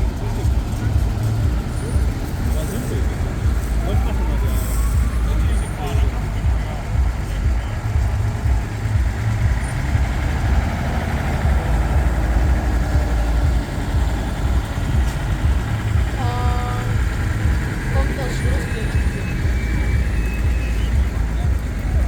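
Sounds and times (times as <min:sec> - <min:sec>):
diesel trucks rumbling past: 0:00.0 - 0:22.0.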